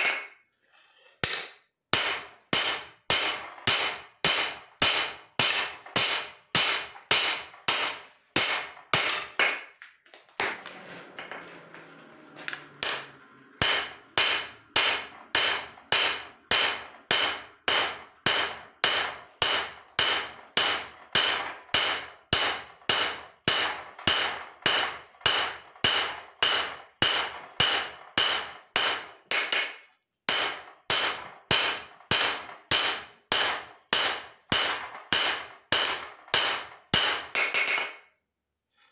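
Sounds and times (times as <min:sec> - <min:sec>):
hammer striking steel on anvil: 0:00.0 - 0:00.4, 0:01.2 - 0:09.8, 0:12.8 - 0:38.1.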